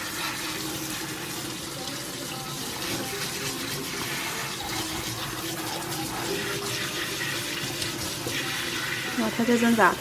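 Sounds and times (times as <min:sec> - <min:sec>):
tap water running into metal basin: 0:00.0 - 0:10.0.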